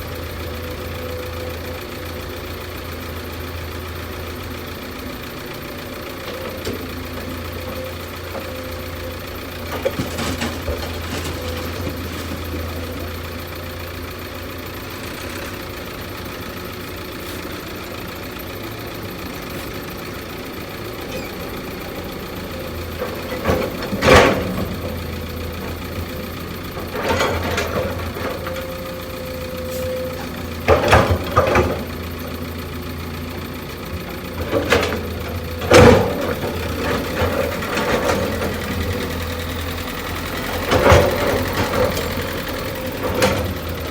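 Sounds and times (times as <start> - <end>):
heavy machine engine idling: 0.0 - 43.9.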